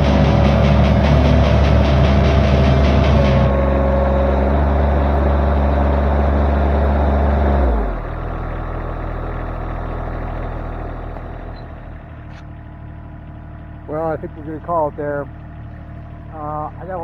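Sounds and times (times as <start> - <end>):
skid loader engine running: 0.0 - 17.0.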